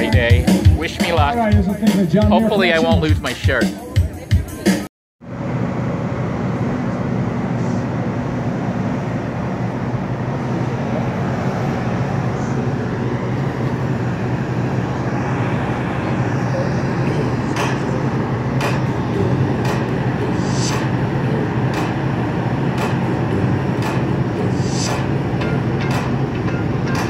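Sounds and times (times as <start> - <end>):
ship engines droning: 0.0 - 3.9, 5.2 - 27.0
rushing noise: 5.3 - 27.0.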